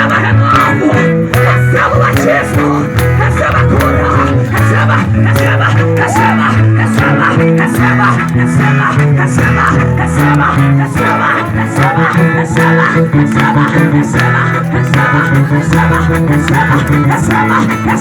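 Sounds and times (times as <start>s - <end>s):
loud music with bass guitar: 0.0s - 18.0s
steady beat: 0.0s - 18.0s.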